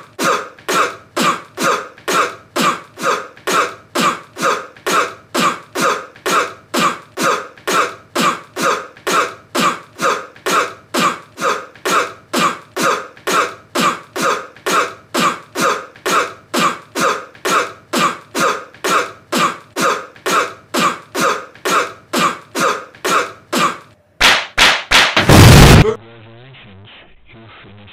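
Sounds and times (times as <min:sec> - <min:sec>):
person coughing: 0:00.0 - 0:24.0.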